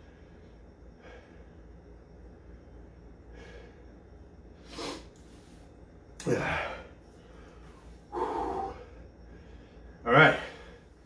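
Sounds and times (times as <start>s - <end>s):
man breathing hard: 0.0s - 1.9s, 3.1s - 5.5s, 6.3s - 11.0s.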